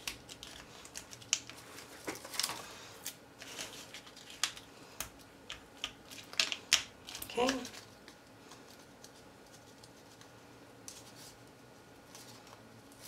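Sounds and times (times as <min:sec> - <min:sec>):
paper and tape crinkling clicks: 0:00.0 - 0:13.0.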